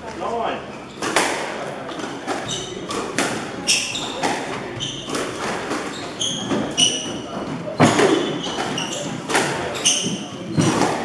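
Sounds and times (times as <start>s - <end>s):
shoes squeaking on wooden floor: 0.8s - 11.0s
squash ball cracking off racquets: 1.0s - 11.0s.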